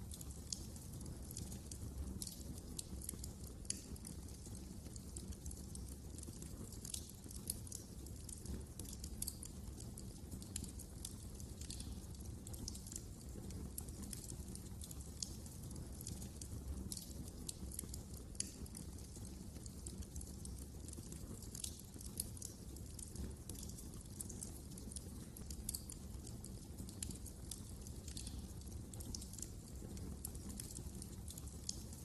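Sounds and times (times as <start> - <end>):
low rumble of burning fire: 0.0 - 32.0
wood fire crackling: 0.0 - 32.0.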